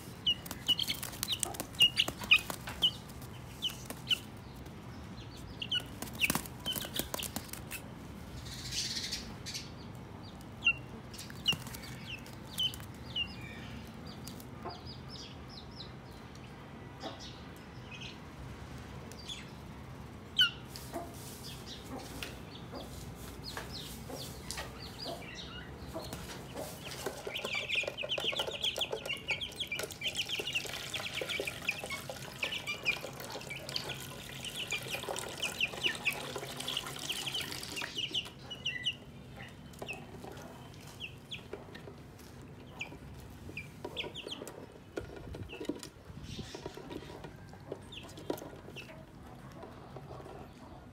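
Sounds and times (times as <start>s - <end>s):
chick peeping: 0.0s - 18.2s, 20.3s - 50.9s
group of chicks chirping: 0.0s - 50.9s.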